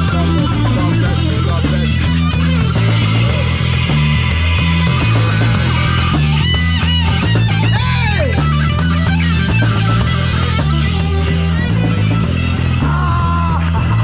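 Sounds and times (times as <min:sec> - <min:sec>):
bass line: 0:00.0 - 0:14.0
electric guitar lead with bends: 0:00.0 - 0:14.0.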